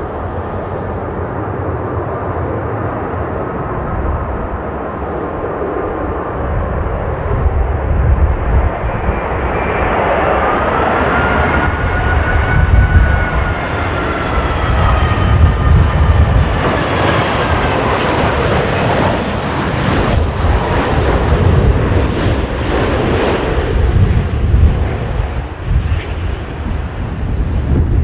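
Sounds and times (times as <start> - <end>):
jet engines whining: 0.0 - 28.0
wind buffeting microphone: 0.0 - 28.0.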